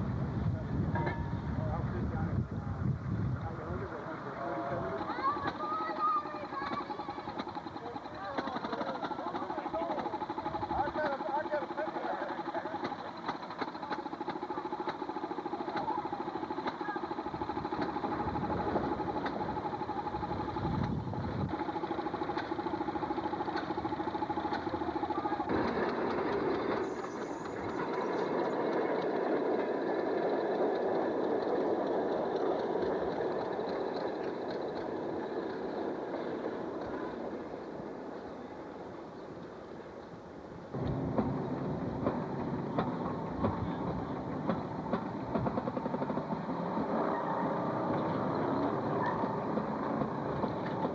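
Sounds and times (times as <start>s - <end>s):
rushing noise of rail car travelling: 0.0s - 50.9s
small gasoline engine running: 0.0s - 50.9s.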